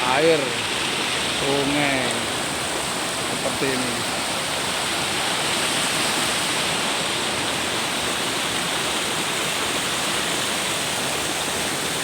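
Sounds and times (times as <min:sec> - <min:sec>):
river water babbling: 0:00.0 - 0:12.0.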